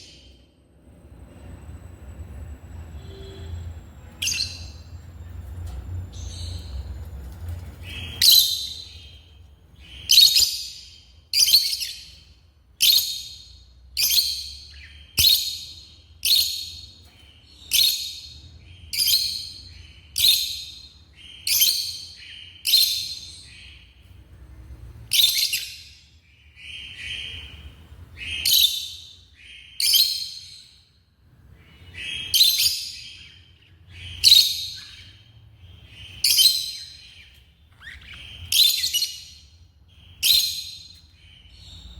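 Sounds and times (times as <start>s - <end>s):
lovebirds chirping: 1.2s - 41.9s.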